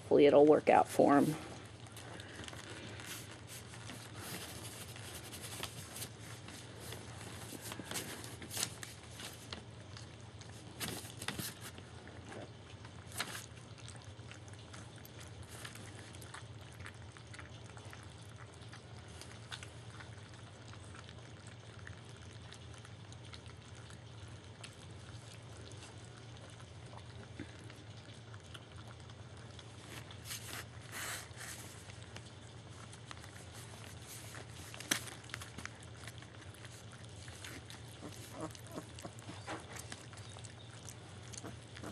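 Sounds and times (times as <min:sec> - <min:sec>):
puppies lapping food: 0:00.0 - 0:41.9
steady low hum: 0:00.0 - 0:41.9
paws clicking and rustling on pan: 0:00.9 - 0:41.9.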